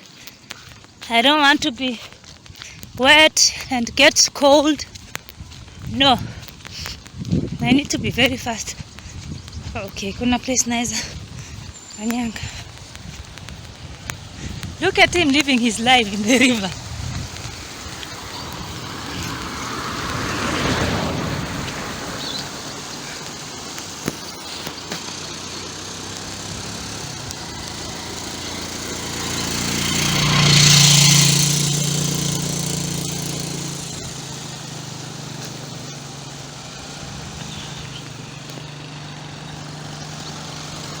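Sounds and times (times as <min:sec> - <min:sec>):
vehicle engine passing: 0:00.1 - 0:41.0.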